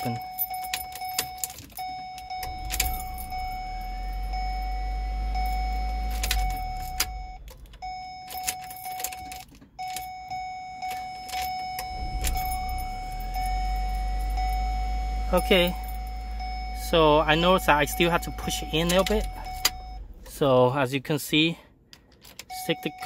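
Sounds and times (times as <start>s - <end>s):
keys jangling in ignition: 0.0s - 20.4s, 22.0s - 22.9s
dashboard warning chime: 0.0s - 20.8s, 22.4s - 23.0s
car engine starting: 0.4s - 22.6s.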